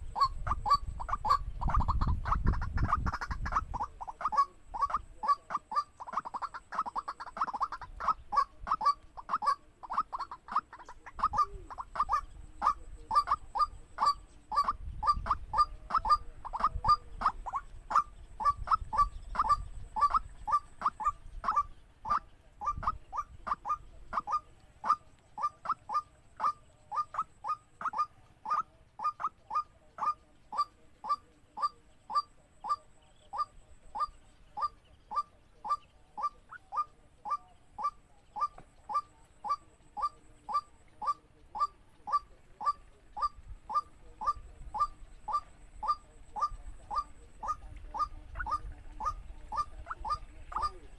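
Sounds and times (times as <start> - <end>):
waterhen call: 0.0 - 50.9.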